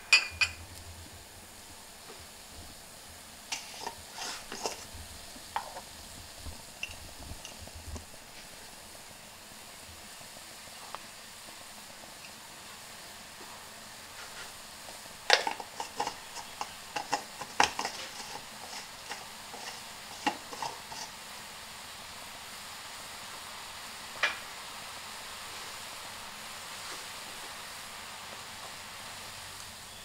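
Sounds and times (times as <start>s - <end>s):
broth boiling hard: 0.0s - 30.0s.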